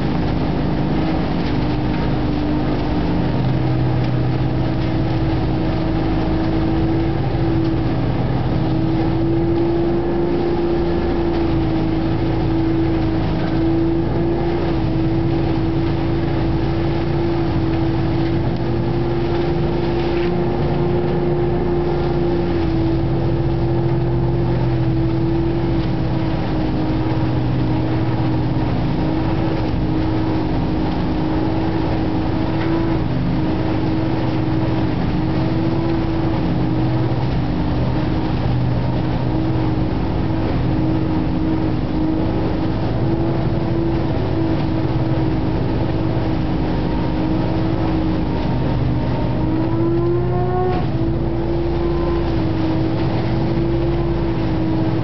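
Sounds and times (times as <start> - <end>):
leaf vacuum engine drone: 0.0 - 55.0.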